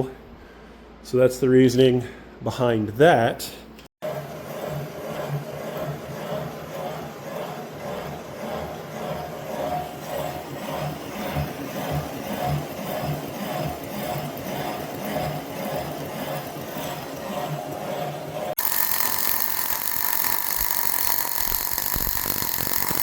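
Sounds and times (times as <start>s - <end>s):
line boring machine running: 4.0s - 23.0s.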